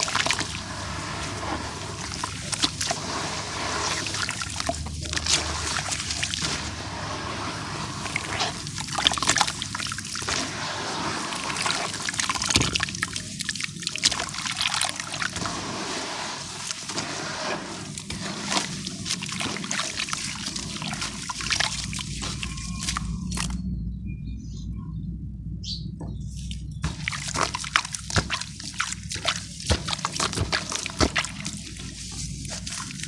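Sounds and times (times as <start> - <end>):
water sloshing and trickling: 0.0 - 23.8, 26.0 - 33.0.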